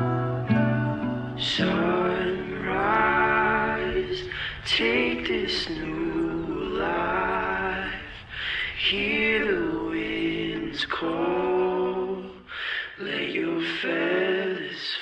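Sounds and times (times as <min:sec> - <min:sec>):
unaccompanied singing voices: 0:00.0 - 0:15.0.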